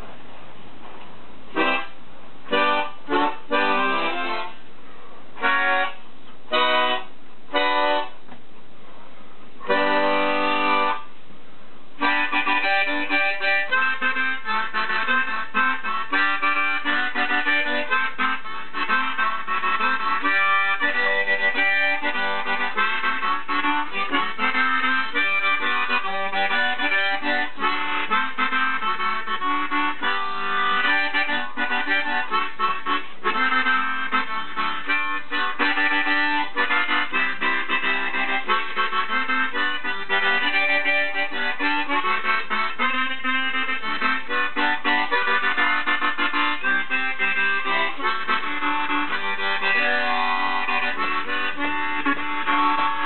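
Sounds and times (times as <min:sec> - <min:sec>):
chord harmonica playing: 0:01.5 - 0:04.6, 0:05.4 - 0:08.2, 0:09.6 - 0:11.1, 0:12.0 - 0:53.0.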